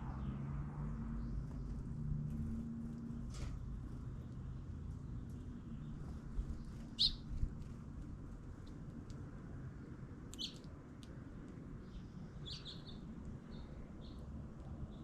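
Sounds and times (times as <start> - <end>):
small birds chirping: 1.0 - 9.2, 10.2 - 15.0.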